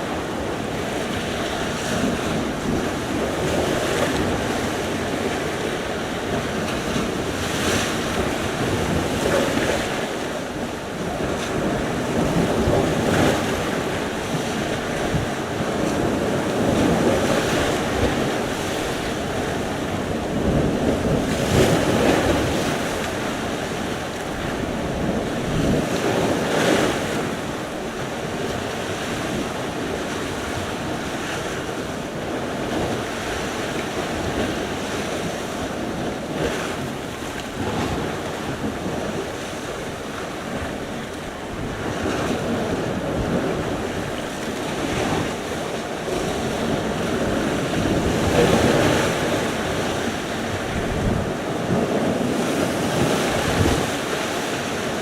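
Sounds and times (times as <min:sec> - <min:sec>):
waves breaking on shore: 0:00.0 - 0:55.0.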